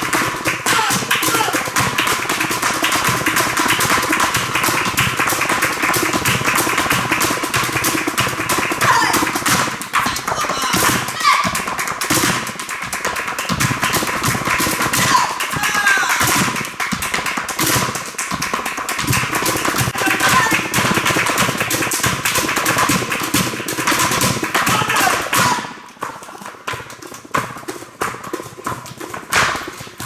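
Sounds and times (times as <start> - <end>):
rapid tapping and clicking: 0.0 - 30.0.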